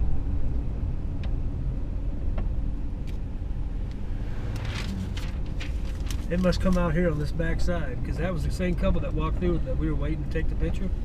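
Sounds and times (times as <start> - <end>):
vehicle rumbling on road: 0.0 - 11.0.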